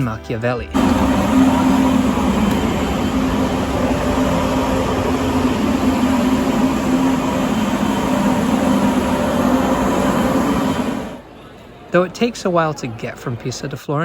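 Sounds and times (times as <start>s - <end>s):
train rumbling: 0.0s - 13.1s.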